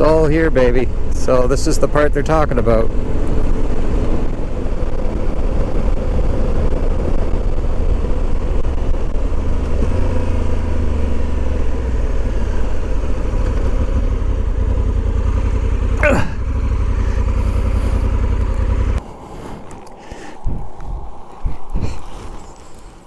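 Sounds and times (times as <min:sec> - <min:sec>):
wind rushing over microphone: 0:00.0 - 0:15.7, 0:16.3 - 0:23.0
motorcycle engine rumble: 0:00.0 - 0:23.0.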